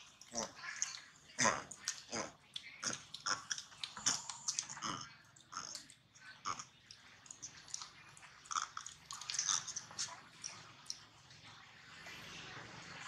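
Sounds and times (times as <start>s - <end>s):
monkey chewing food: 0.0s - 11.1s.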